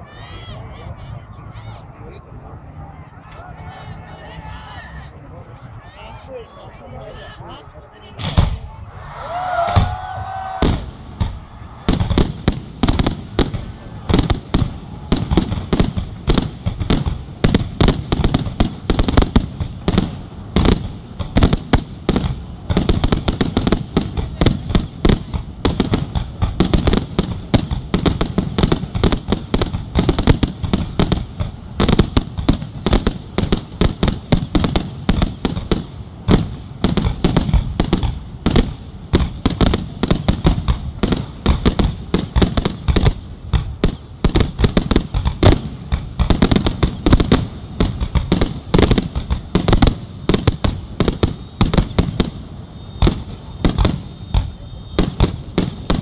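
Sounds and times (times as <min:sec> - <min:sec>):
fireworks launching and bursting: 0:07.2 - 0:56.0.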